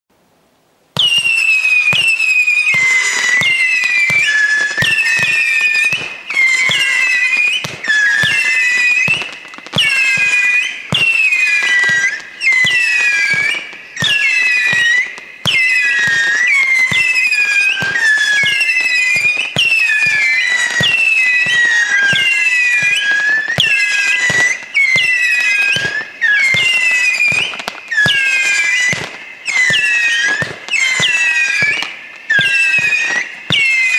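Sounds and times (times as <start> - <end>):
firework launch pops: 1.0 - 33.9
shrill firework whistles: 1.0 - 33.9.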